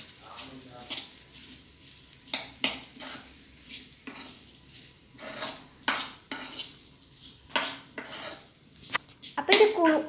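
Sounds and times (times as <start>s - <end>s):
spoon scraping metal pan: 0.2s - 10.0s.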